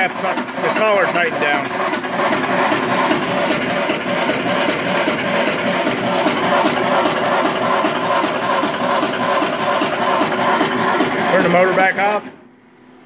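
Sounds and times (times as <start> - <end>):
coffee roaster motor whirring: 0.0 - 12.4
repeating rubbing noise: 1.4 - 11.9.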